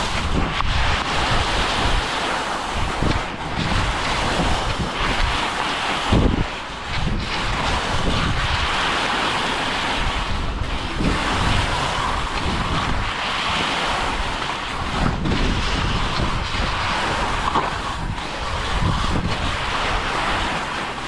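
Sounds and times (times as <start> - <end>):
skis carving snow: 0.0 - 21.0
wind buffeting microphone: 0.0 - 21.0.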